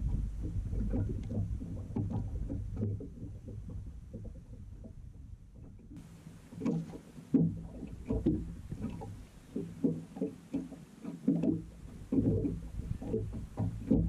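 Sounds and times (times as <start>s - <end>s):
waves slapping boat hull: 0.0s - 14.0s.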